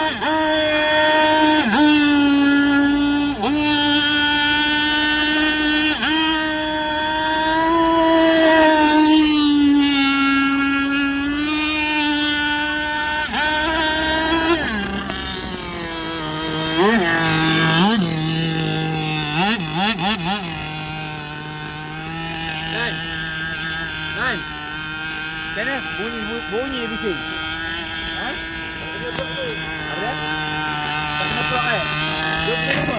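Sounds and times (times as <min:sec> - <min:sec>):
speedboat engine revving: 0:00.0 - 0:32.9.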